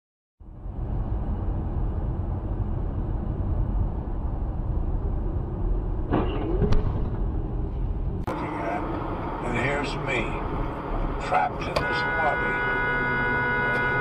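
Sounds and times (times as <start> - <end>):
car road and engine noise: 0.4 - 14.0.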